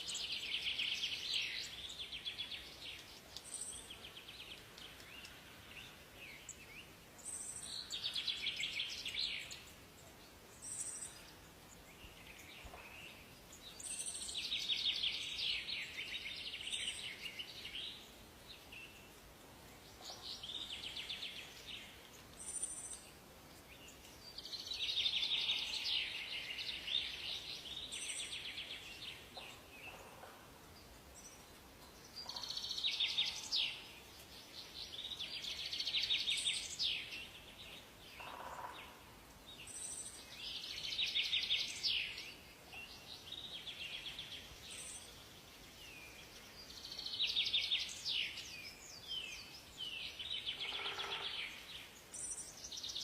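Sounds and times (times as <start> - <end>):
faint steady hiss: 0.0 - 53.0
songbirds singing: 0.0 - 53.0.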